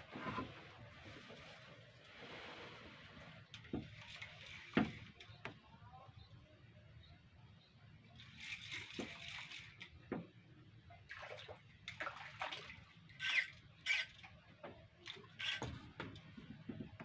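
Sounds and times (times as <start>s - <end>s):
water splashing and sloshing: 0.0s - 5.8s, 8.0s - 17.0s.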